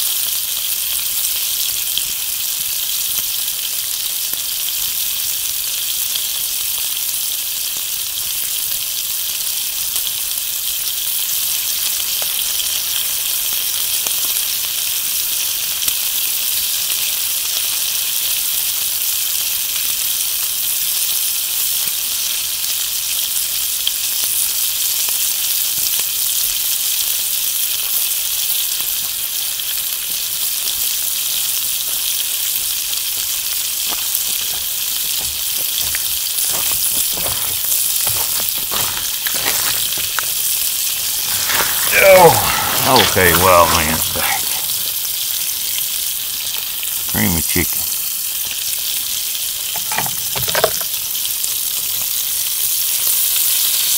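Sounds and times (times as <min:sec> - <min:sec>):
meat sizzling in a skillet: 0:00.0 - 0:53.9.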